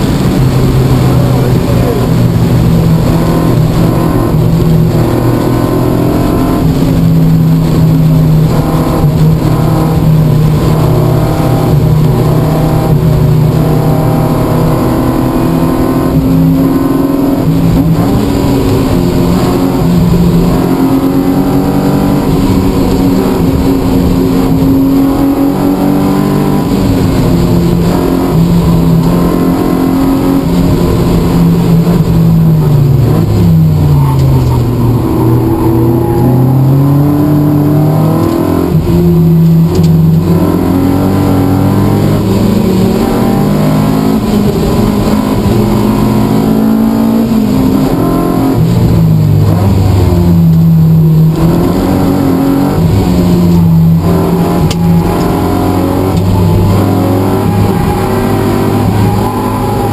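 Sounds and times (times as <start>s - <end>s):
car engine revving from cabin: 0.0s - 59.9s.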